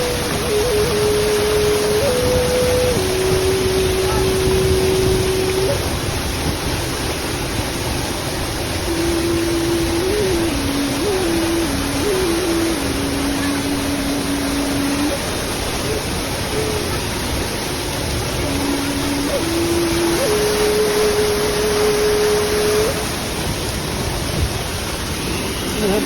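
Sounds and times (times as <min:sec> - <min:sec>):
water falling and flowing: 0:00.0 - 0:26.0.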